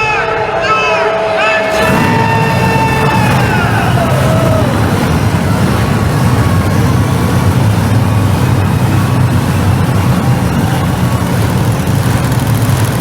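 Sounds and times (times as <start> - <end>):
truck engine running loud: 1.6 - 13.0.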